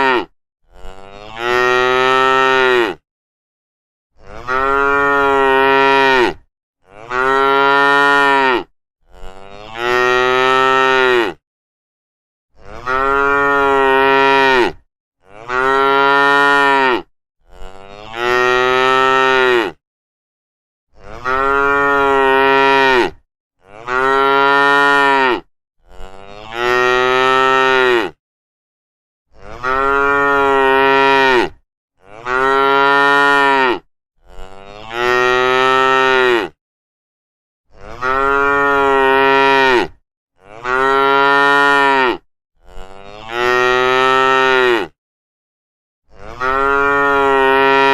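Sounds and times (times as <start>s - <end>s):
cow mooing: 0.0s - 3.0s, 4.2s - 11.4s, 12.6s - 19.8s, 21.0s - 28.2s, 29.3s - 36.6s, 37.7s - 45.0s, 46.2s - 47.9s.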